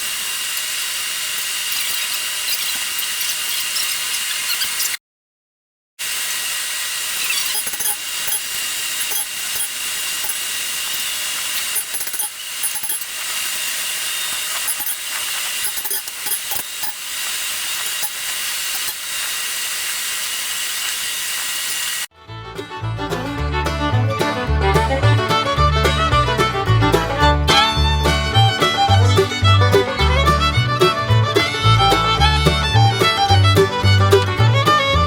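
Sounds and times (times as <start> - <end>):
power grinder grinding steel: 0.0 - 5.0, 6.0 - 22.1, 25.3 - 35.0.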